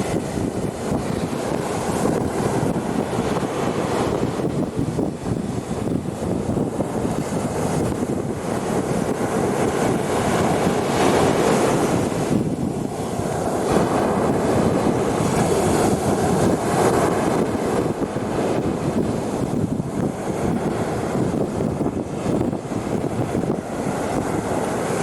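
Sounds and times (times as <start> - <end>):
waves breaking on shore: 0.0 - 25.0
wind buffeting microphone: 0.0 - 25.0.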